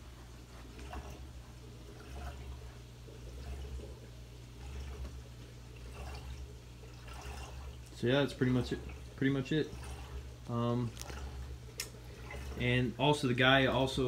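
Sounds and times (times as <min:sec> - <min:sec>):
aquarium pumps humming: 0:00.0 - 0:14.0
water trickling and splashing: 0:00.4 - 0:14.0.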